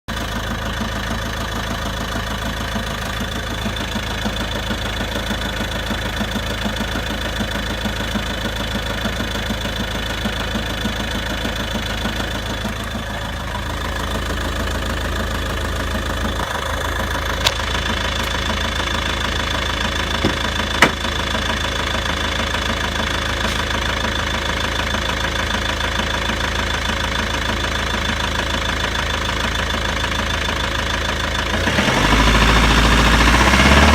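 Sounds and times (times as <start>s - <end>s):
diesel engine idling: 0.1s - 33.9s
engine knocking and tapping: 0.1s - 33.9s.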